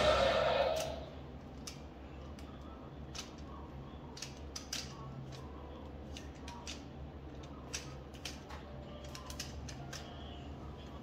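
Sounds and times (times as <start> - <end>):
low steady hum: 0.0 - 11.0
plastic toys clicking together: 1.5 - 10.4.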